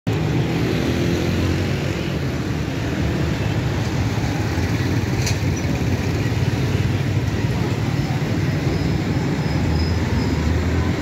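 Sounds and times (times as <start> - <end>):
street traffic engine rumble: 0.1 - 11.0.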